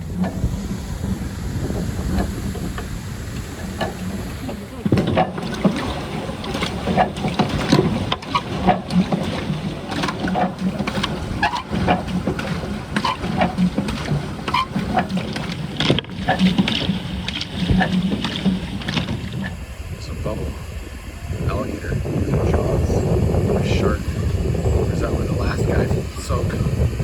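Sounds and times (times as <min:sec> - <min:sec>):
paddle wheel splashing water: 0:00.0 - 0:27.0
wind on microphone: 0:00.0 - 0:27.0.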